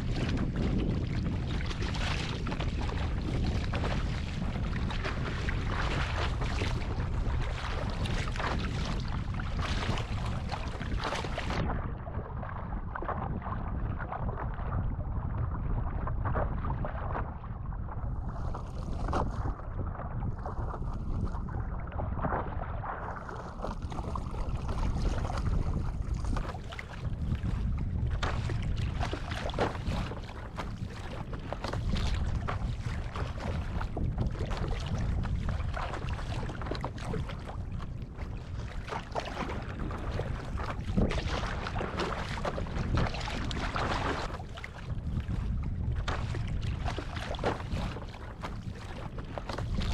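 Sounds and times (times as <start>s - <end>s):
water sloshing and splashing: 0.0s - 14.8s, 15.9s - 49.9s
wind rumbling on microphone: 0.0s - 49.9s.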